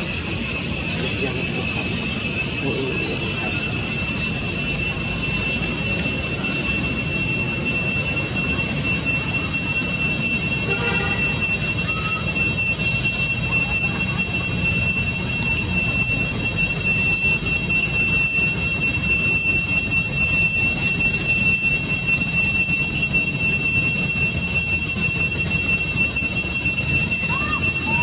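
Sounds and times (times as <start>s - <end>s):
cicadas droning: 0.0s - 28.0s.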